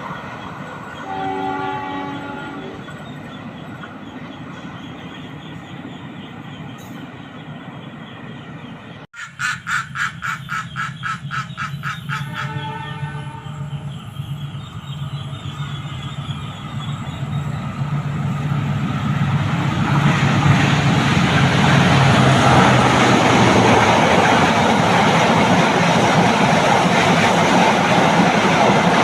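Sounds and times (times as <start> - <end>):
train engine drone: 0.0 - 29.0
train wheels rumbling on rails: 0.0 - 29.0.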